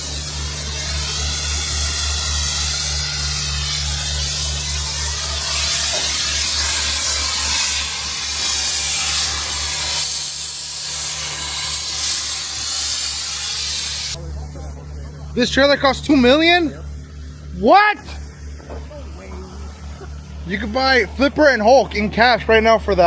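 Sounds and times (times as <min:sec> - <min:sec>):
cutting torch hissing: 0:00.0 - 0:23.0
engine idling: 0:00.0 - 0:23.0.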